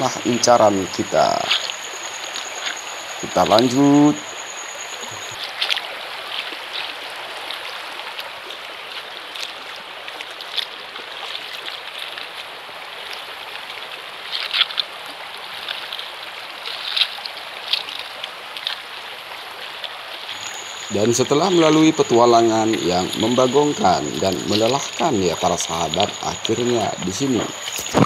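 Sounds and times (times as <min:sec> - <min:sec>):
footsteps splashing on wet stones: 0:00.0 - 0:28.0
water running over pebbles: 0:00.0 - 0:28.0.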